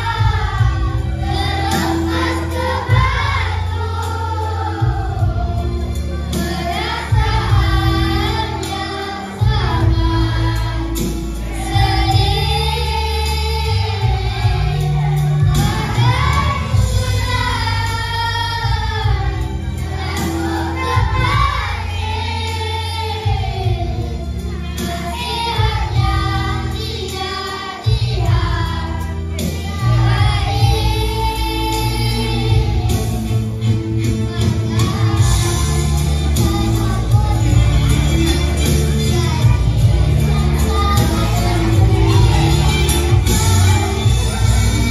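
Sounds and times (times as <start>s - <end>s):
backing music with bass line: 0.0s - 44.9s
children singing: 0.0s - 44.9s.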